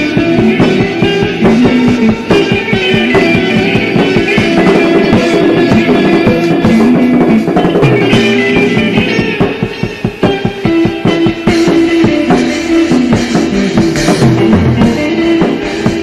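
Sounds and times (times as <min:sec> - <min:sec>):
bass guitar: 0:00.0 - 0:16.0
drum kit: 0:00.0 - 0:16.0
electric guitar sustained notes: 0:00.0 - 0:16.0.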